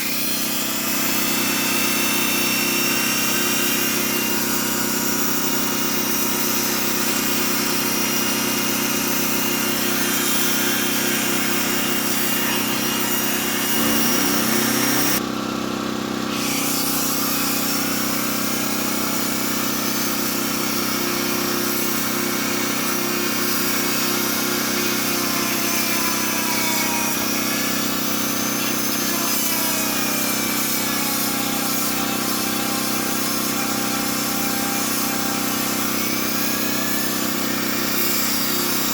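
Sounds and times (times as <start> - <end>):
rotary tool grinding whine: 0.0 - 15.2, 16.4 - 38.9
small generator engine running: 0.0 - 26.4, 27.1 - 38.9.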